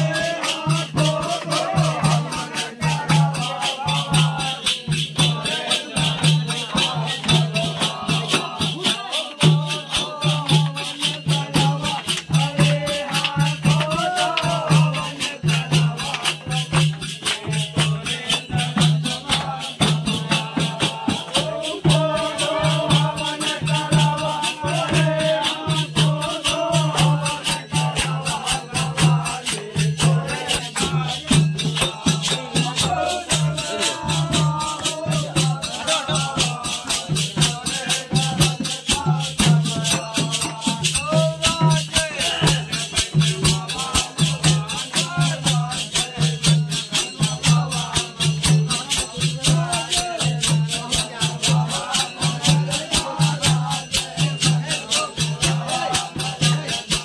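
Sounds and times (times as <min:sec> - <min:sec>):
fast jingling percussion: 0:00.0 - 0:57.0
hand drum beating: 0:00.0 - 0:57.0
men singing folk song: 0:00.0 - 0:57.0.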